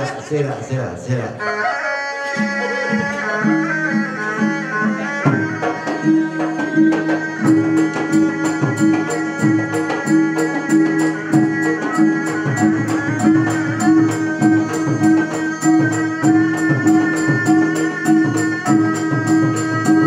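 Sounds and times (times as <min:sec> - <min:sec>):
reedy oboe melody: 0:01.4 - 0:20.0
hand drums: 0:02.3 - 0:20.0.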